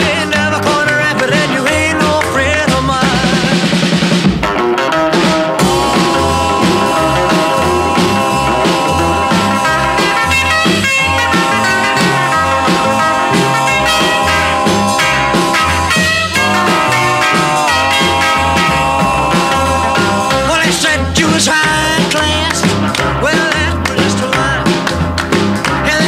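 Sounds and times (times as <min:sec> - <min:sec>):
instrumental rock music: 0:00.0 - 0:26.0.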